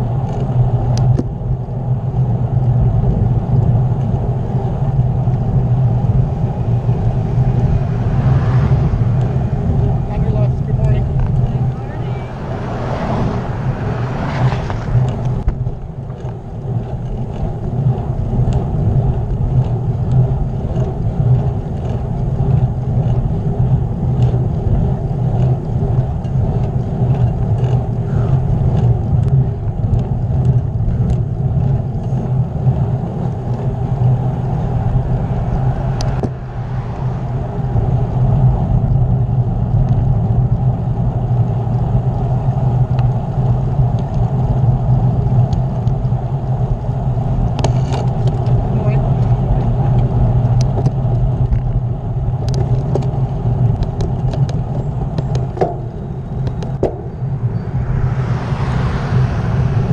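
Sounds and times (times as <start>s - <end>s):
road rumble: 0.0s - 59.9s
rushing wind on microphone: 0.0s - 59.9s.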